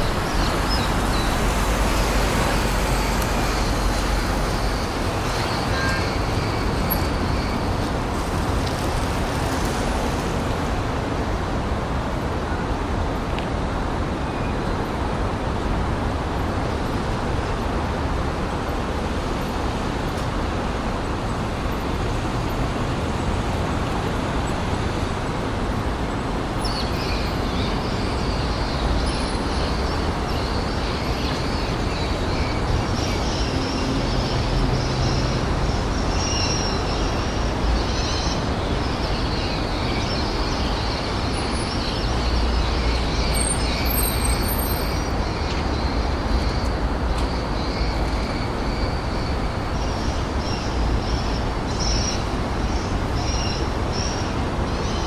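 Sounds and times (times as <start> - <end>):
distant city traffic: 0.0 - 55.0.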